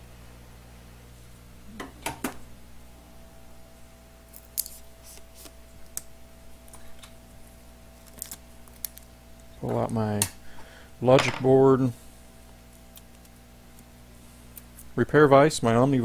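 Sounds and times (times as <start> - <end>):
low equipment hum: 0.0 - 16.0.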